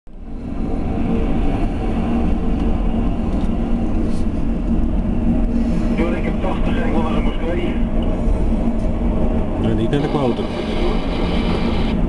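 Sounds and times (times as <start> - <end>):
blast furnace rumble: 0.1 - 12.0.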